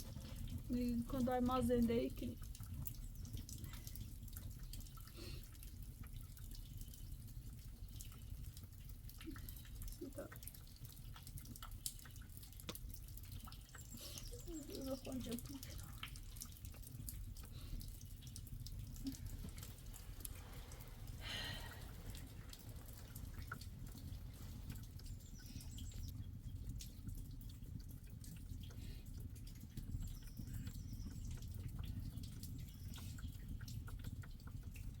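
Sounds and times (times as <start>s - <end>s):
water dripping: 0.0s - 35.0s.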